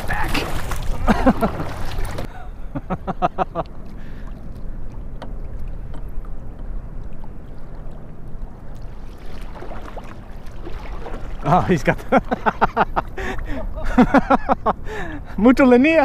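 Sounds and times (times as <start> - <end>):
water lapping against hull: 0.0 - 15.4.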